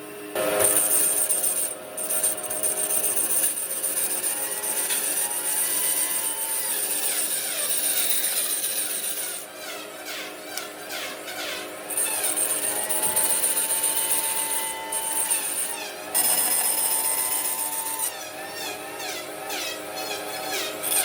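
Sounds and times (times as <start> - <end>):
power tool hissing on wood: 0.4 - 18.8.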